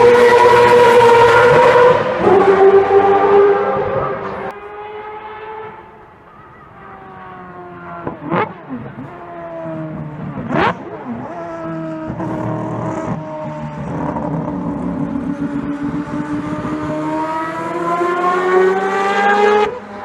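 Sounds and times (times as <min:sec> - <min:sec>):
race car rotary engine: 0:00.0 - 0:20.0.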